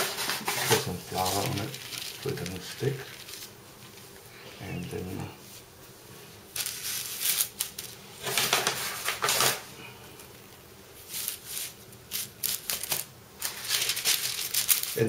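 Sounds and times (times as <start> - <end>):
wax paper rustling: 0.0 - 5.7, 6.4 - 15.0.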